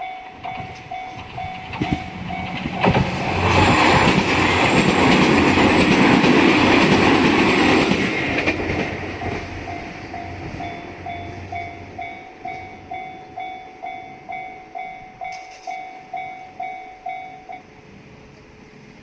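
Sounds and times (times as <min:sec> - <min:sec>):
level crossing warning bell: 0:00.0 - 0:18.0
passing train rumble: 0:00.0 - 0:19.0.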